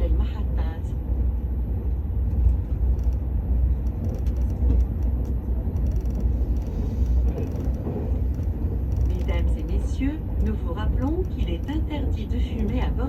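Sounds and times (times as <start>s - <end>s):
train cabin rumble: 0.0s - 13.0s.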